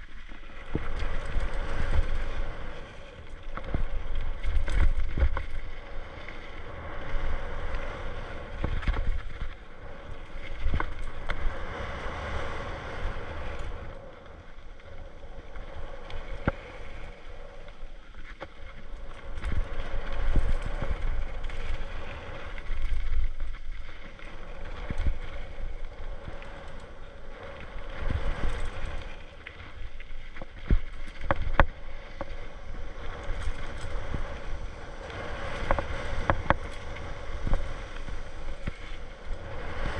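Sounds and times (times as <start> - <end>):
bike tyres on dirt trail: 0.0 - 39.9
wind buffeting microphone: 0.0 - 39.9.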